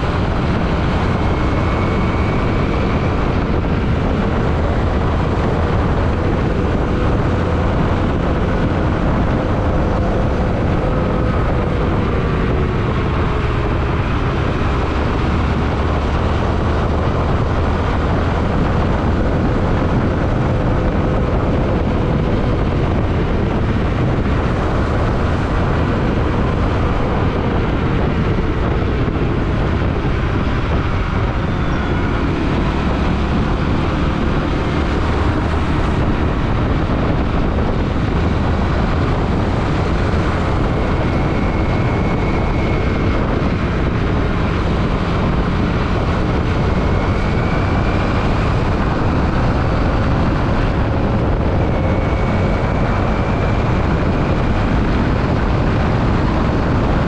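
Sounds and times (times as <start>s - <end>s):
motorcycle engine drone: 0.0s - 57.0s
road noise: 0.0s - 57.0s
wind rush: 0.0s - 57.0s.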